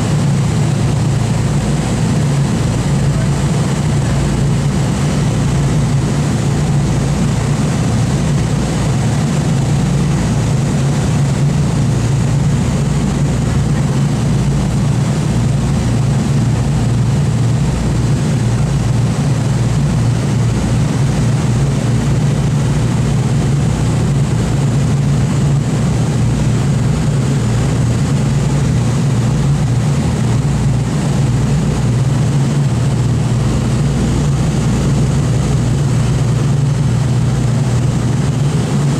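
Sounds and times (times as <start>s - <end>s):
aircraft radial engines droning: 0.0s - 38.9s.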